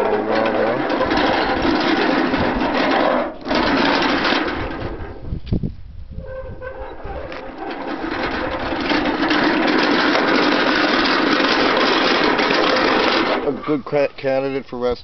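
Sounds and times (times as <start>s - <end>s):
sheet-metal body rattling: 0.0s - 5.4s, 6.2s - 13.6s
wheels crunching on asphalt: 0.0s - 14.8s.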